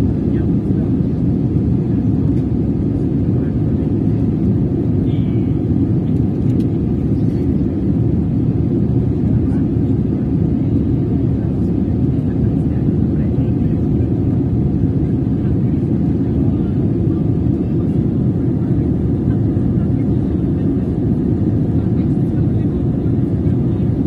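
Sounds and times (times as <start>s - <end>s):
jet airliner cabin rumble: 0.0s - 24.0s.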